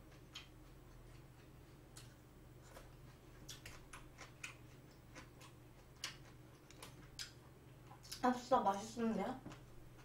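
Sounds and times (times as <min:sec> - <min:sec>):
wet mouth clicks while chewing: 0:00.0 - 0:08.2.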